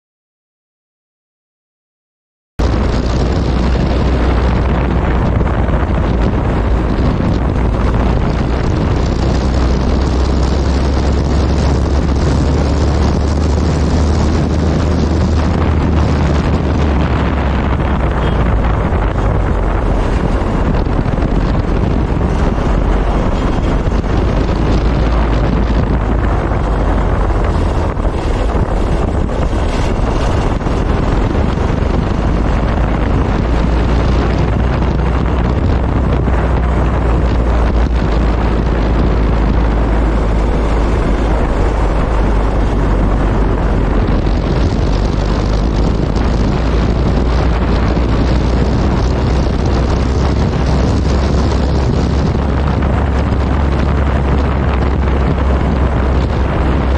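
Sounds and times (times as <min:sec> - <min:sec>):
motorcycle engine rumble: 0:02.6 - 0:56.9
wind buffeting microphone: 0:02.6 - 0:56.9.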